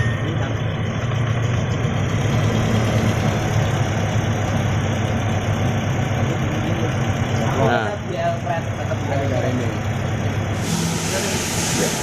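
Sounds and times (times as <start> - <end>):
car engine idling unevenly: 0.0 - 12.0.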